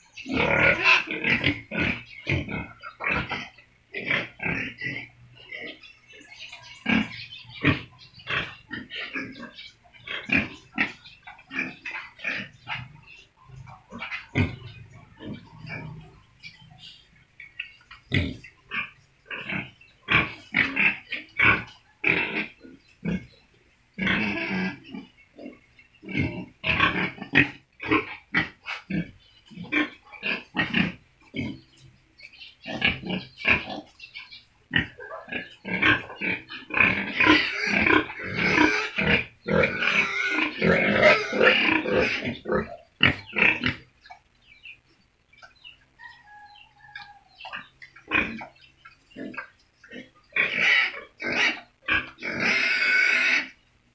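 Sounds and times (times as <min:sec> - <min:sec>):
pigs grunting: 0:00.2 - 0:32.0, 0:32.6 - 0:44.6, 0:45.6 - 0:53.6.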